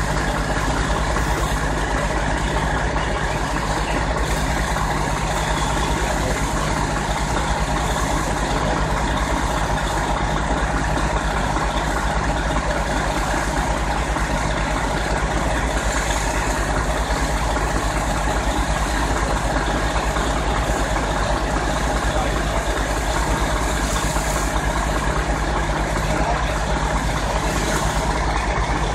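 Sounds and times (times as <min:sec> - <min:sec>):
diesel engine low throb: 0:00.0 - 0:28.9.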